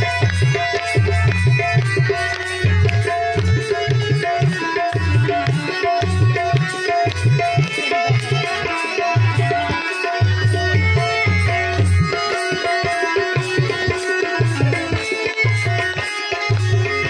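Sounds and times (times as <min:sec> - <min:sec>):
electronic keyboard melody: 0:00.0 - 0:17.0
tabla drumming: 0:00.0 - 0:17.0.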